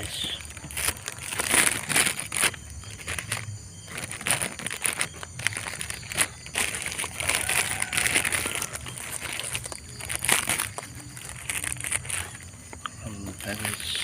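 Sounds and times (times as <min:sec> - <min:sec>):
leafy stems rustling: 0:00.0 - 0:14.0.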